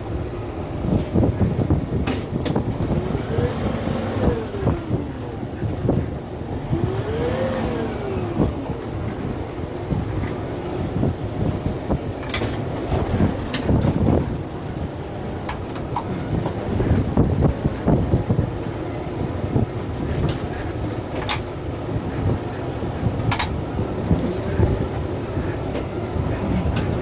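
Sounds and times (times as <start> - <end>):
tractor diesel engine under load: 0.0 - 27.0.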